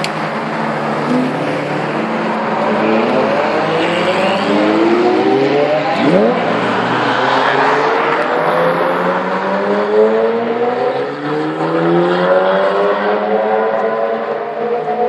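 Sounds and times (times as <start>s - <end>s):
sports car engine passing: 0.1s - 15.0s.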